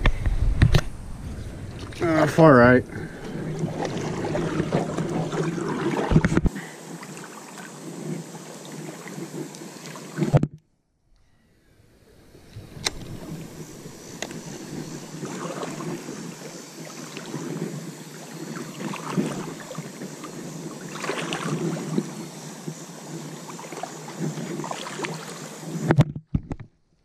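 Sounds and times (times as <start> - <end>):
water lapping around a boat: 1.1 - 10.4, 12.3 - 25.9.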